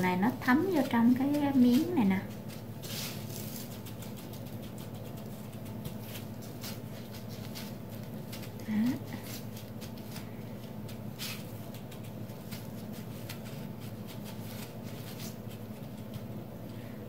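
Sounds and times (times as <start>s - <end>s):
gritty rustling of breadcrumbs: 0.0s - 16.9s
steady low hum: 0.0s - 17.0s.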